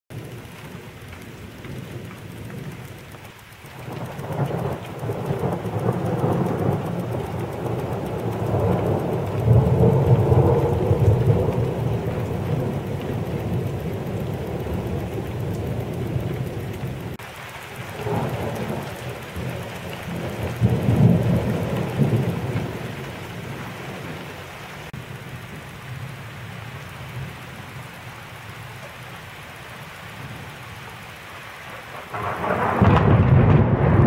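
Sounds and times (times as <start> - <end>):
thunder rumbling: 0.1 - 29.1, 31.7 - 34.0
steady rain: 0.1 - 34.0.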